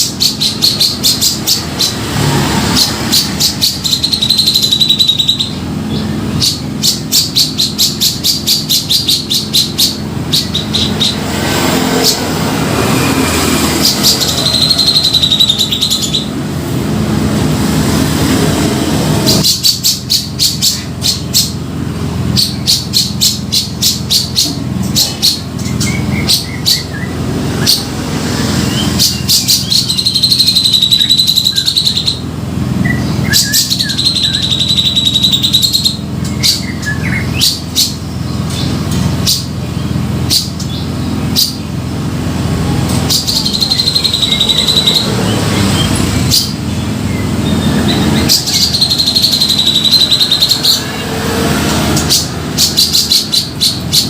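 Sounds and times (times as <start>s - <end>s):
bird calling: 0.0s - 16.6s, 19.3s - 54.0s.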